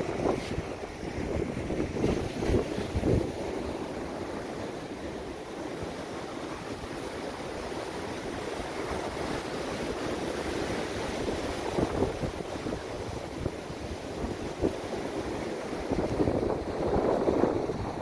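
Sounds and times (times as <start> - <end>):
wind buffeting microphone: 0.0 - 5.0, 5.6 - 18.0.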